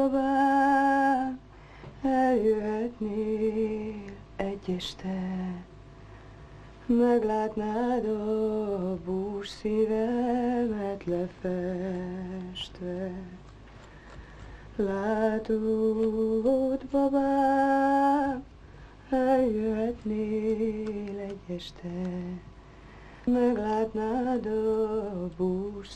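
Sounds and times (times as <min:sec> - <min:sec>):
woman singing unaccompanied: 0:00.0 - 0:05.7, 0:06.8 - 0:13.5, 0:14.7 - 0:22.6, 0:23.2 - 0:25.9.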